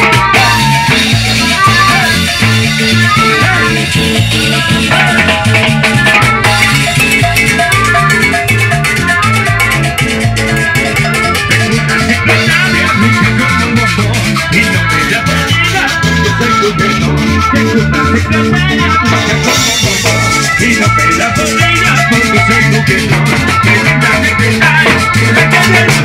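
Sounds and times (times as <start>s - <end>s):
live band playing latin dance music: 0.0s - 26.0s
repeating bass and percussion beat: 0.0s - 26.0s
sustained melody notes: 0.0s - 26.0s.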